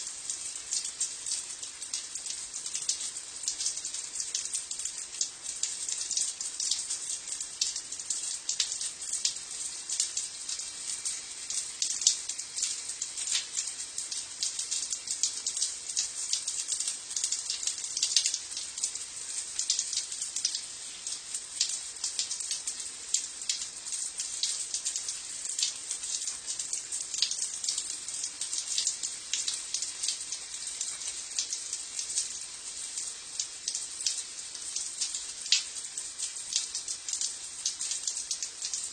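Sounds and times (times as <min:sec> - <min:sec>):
shower water spraying on stone: 0:00.0 - 0:38.9.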